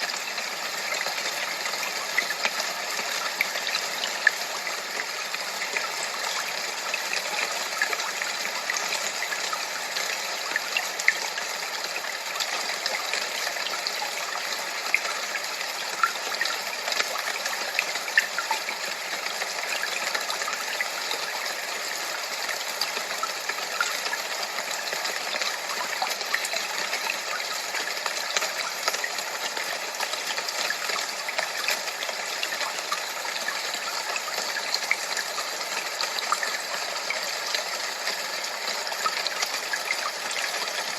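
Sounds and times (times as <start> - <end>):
running water rushing: 0.0 - 40.9
water splashes and crackles: 0.0 - 40.9.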